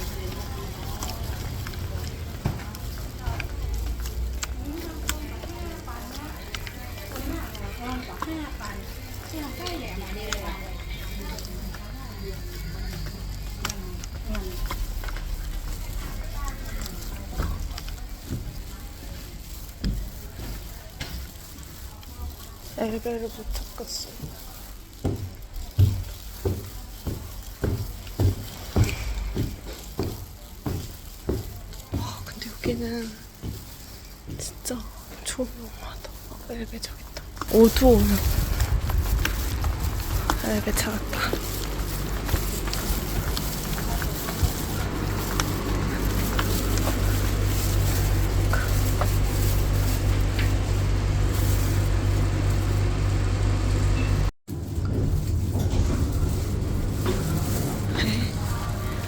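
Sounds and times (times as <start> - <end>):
footsteps walking: 0.0 - 59.0.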